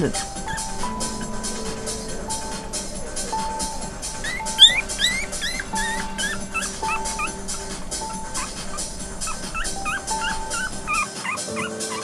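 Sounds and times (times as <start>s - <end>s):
background music with steady beat: 0.0s - 12.0s
puppies whimpering: 0.0s - 12.0s.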